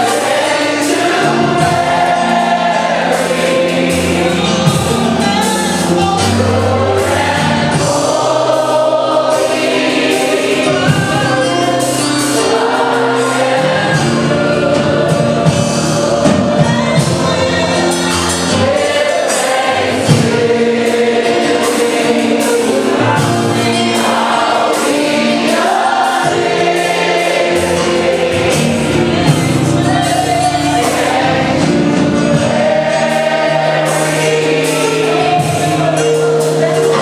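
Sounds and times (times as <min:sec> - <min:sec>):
band accompaniment: 0:00.0 - 0:37.0
gospel choir singing: 0:00.0 - 0:37.0.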